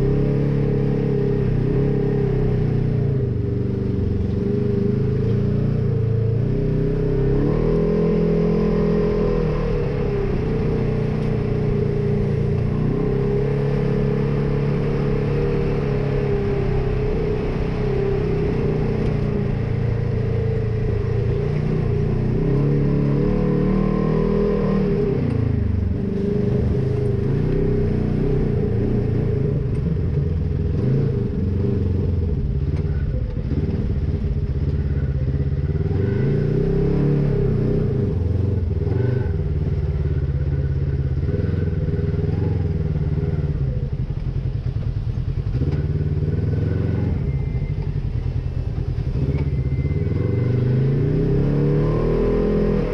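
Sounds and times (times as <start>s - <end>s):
twin engine revving: 0.0s - 52.9s.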